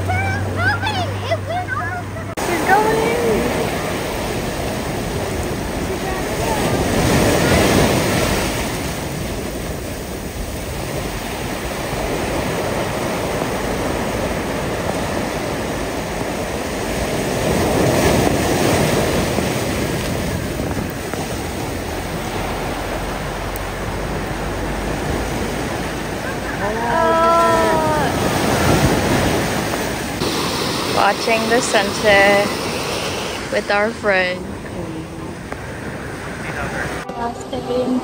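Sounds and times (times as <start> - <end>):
ocean surf breaking on rocks: 0.0 - 38.0.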